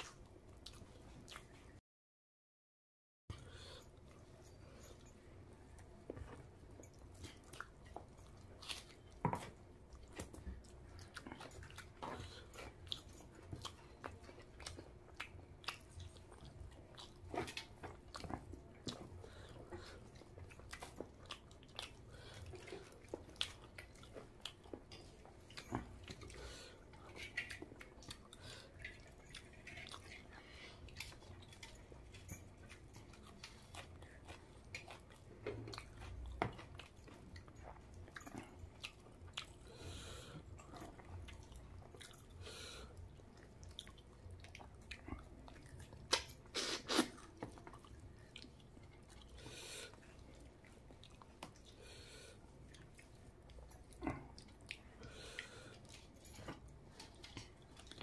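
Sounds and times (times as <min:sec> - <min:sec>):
man chewing food: 0:00.0 - 0:01.8, 0:03.3 - 0:58.0.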